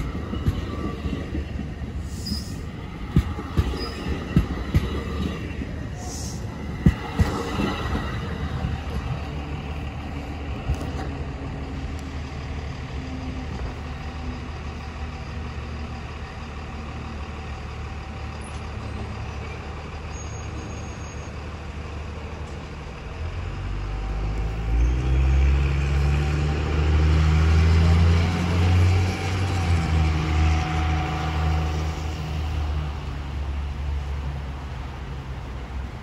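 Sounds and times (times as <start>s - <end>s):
road vehicles accelerating: 0.0s - 36.0s
train rumbling: 0.0s - 36.0s.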